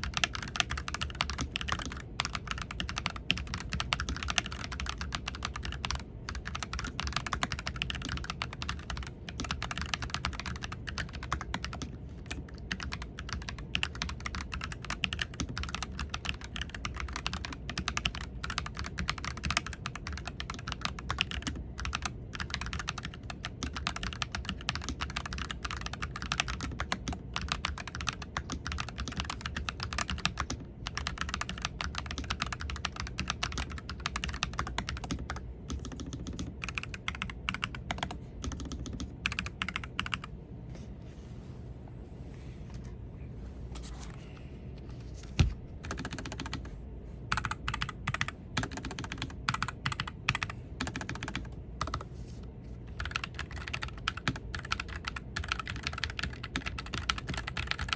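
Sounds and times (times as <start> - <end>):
mechanical keyboard typing: 0.0 - 40.3, 45.8 - 46.7, 47.3 - 52.1, 52.9 - 57.9.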